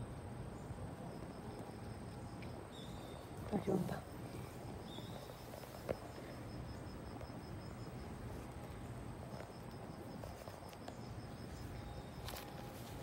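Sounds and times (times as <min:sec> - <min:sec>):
insect chirping: 0:00.0 - 0:13.0
low outdoor hum: 0:00.0 - 0:13.0.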